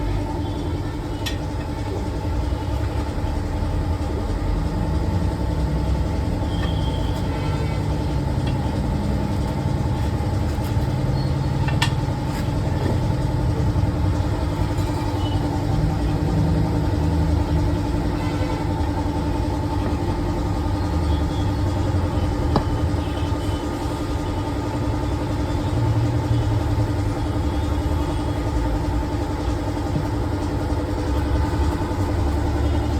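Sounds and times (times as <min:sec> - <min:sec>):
vehicle engine and traffic: 0:00.0 - 0:32.9.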